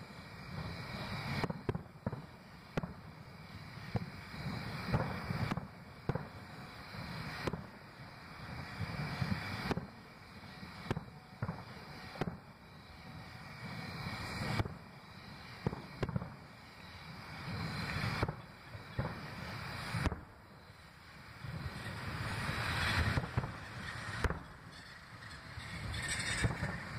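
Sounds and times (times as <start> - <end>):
fireworks booming: 0.0 - 26.9.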